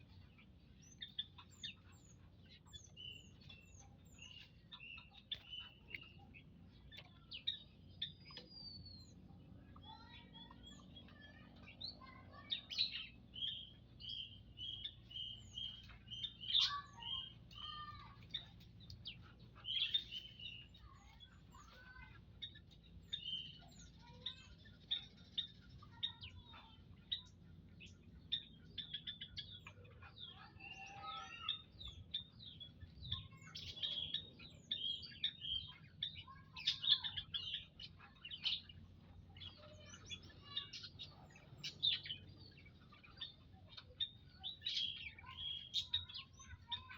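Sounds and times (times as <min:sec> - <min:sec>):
small birds chirping and calling: 0:00.0 - 0:46.9.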